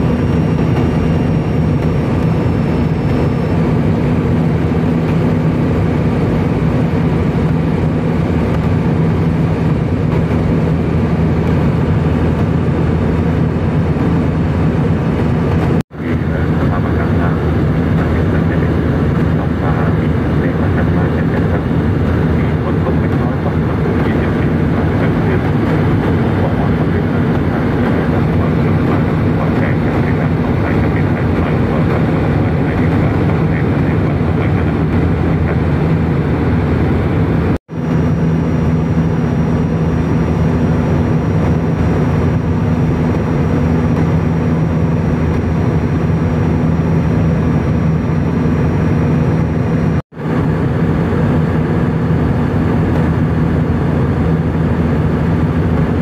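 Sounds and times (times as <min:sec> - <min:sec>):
airliner cabin engine rush: 0:00.0 - 0:56.0.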